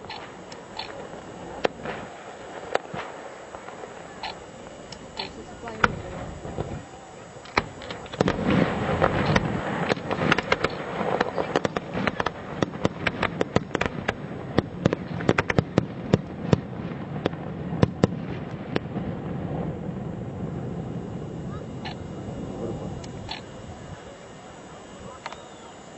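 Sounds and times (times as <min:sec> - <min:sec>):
fireworks bangs and crackling: 0:00.0 - 0:25.5.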